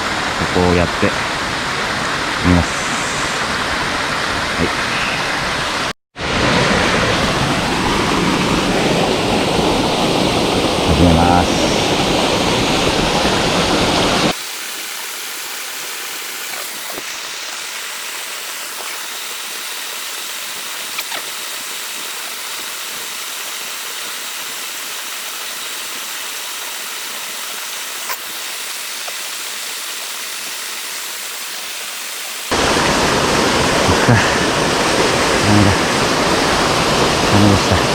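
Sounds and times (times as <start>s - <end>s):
stream water rushing over dam: 0.0s - 37.9s.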